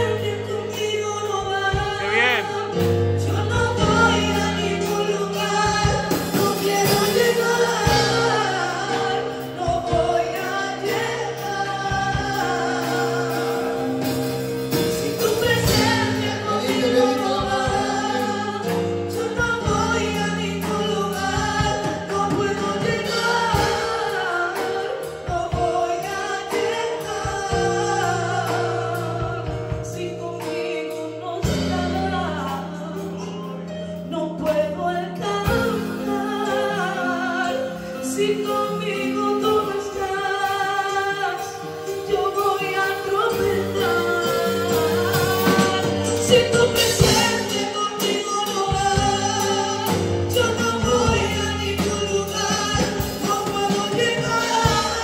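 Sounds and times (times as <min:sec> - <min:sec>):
keyboard chords: 0:00.0 - 0:55.0
women singing gospel song: 0:00.0 - 0:55.0.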